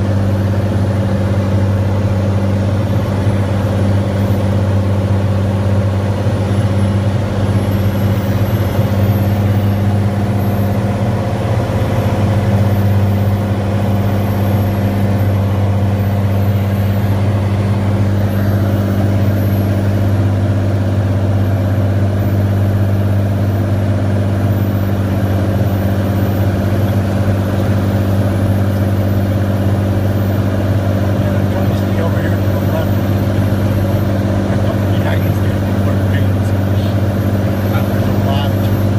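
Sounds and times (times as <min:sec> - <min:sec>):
aircraft engine droning: 0:00.0 - 0:38.9.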